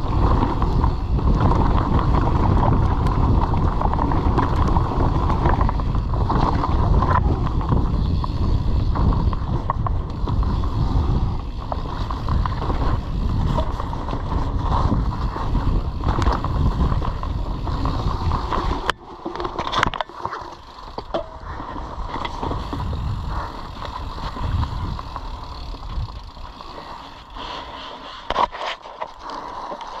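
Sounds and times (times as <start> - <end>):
wind on microphone: 0.0 - 19.0, 21.2 - 26.9
tyres rolling over dirt: 0.0 - 27.7
bike rattling: 0.0 - 30.0.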